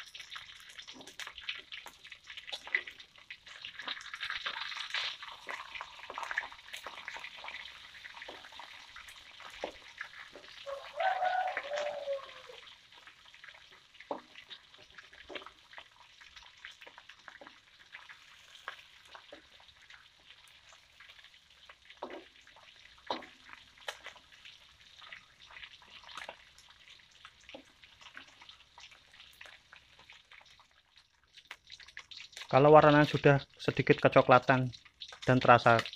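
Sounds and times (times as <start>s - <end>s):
fish sizzling in oil: 0.0s - 35.9s.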